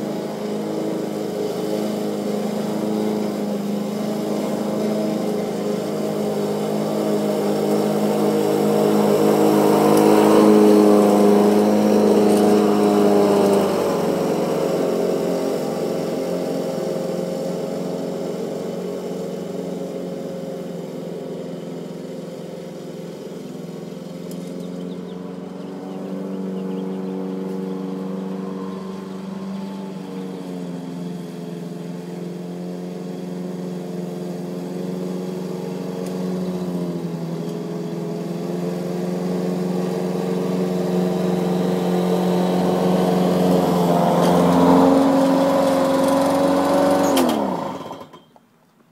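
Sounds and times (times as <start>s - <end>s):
lawn mower engine running: 0.0s - 48.8s.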